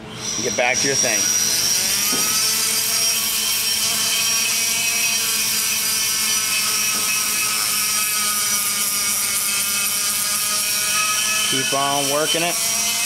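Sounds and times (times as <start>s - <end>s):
die grinder grinding metal: 0.2s - 13.0s.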